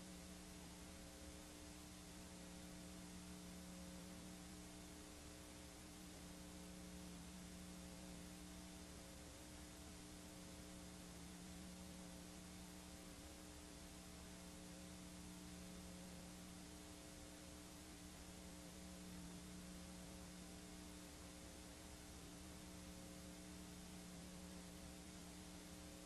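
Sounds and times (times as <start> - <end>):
videotape hiss: 0.0 - 26.0.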